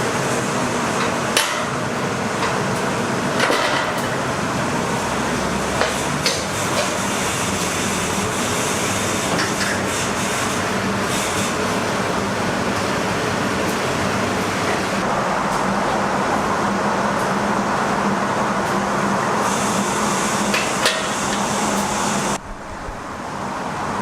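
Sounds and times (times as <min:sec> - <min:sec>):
constant kitchen hiss: 0:00.0 - 0:24.0.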